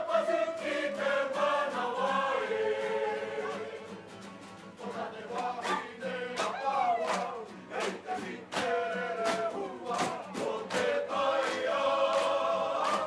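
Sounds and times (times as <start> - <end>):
women singing together: 0.0 - 4.0, 4.8 - 13.0.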